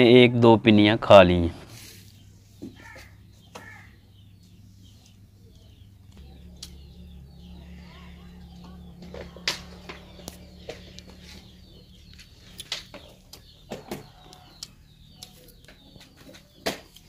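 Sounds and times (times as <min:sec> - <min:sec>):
birds chirping: 0:00.0 - 0:17.0
low hum: 0:01.9 - 0:16.2.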